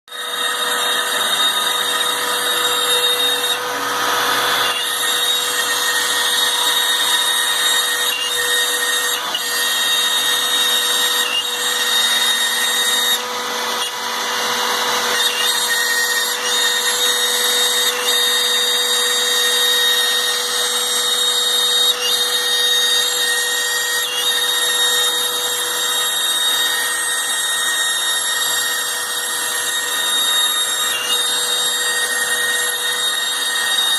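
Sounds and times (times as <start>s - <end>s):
router spindle motor whine: 0.1s - 33.9s.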